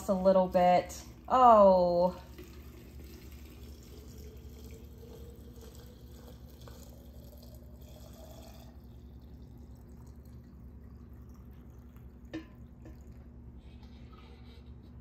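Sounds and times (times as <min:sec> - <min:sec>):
steady low hum: 0:00.0 - 0:15.0
syrup trickling into jar: 0:02.2 - 0:14.7.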